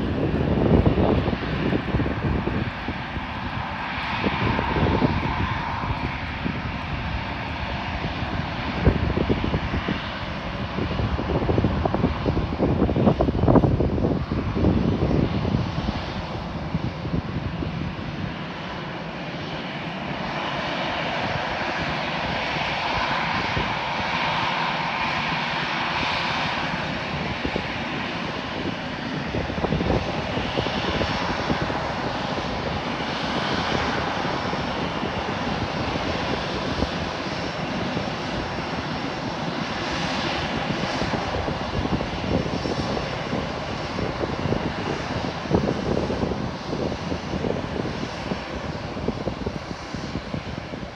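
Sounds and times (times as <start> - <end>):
jet engines rumbling and whining: 0.0 - 50.9.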